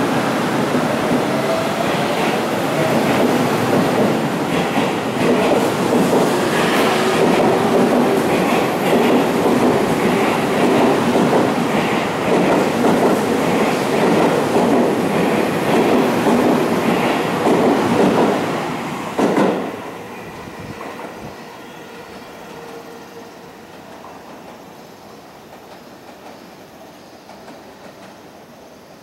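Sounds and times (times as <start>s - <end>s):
electric train rumbling past: 0.0s - 29.0s.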